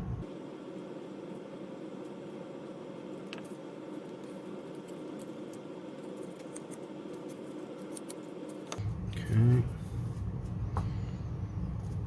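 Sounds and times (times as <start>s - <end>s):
low hum: 0.0s - 7.9s, 8.8s - 12.0s.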